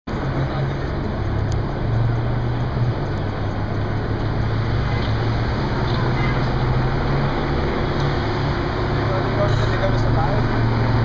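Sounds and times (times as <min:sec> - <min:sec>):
low engine hum: 0:00.1 - 0:11.0
vehicles passing: 0:00.1 - 0:11.0.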